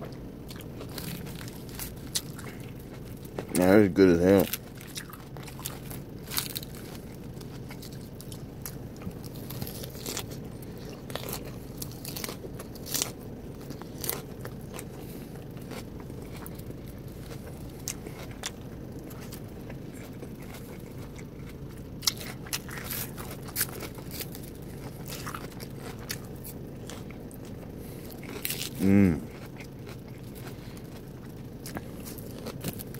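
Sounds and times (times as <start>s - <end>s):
person chewing crunchy salad: 0.0s - 32.9s
steady low hum: 0.0s - 32.9s.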